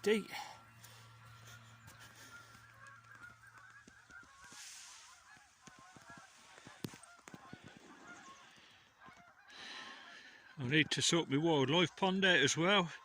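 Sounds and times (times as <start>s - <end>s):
geese honking in distance: 0.0s - 13.0s.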